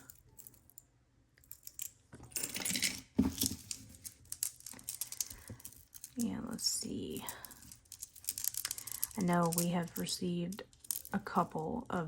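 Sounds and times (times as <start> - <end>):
metal jewelry clinking and jingling: 0.0 - 11.4.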